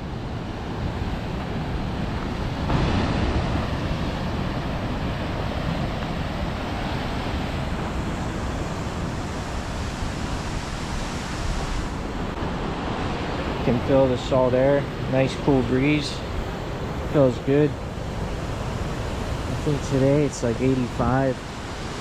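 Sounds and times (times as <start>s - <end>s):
surf breaking on shore: 0.0s - 22.0s
wind buffeting microphone: 0.0s - 22.0s.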